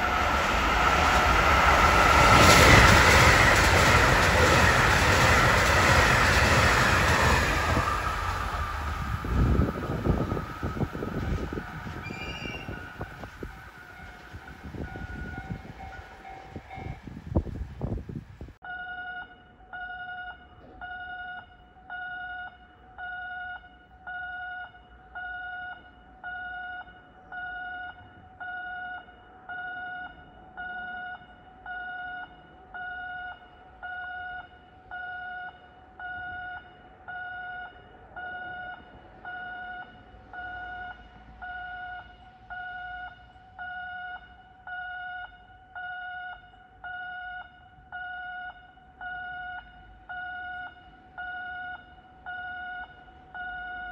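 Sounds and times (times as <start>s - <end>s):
railway warning alarm beeping: 0.0s - 18.0s, 18.6s - 53.9s.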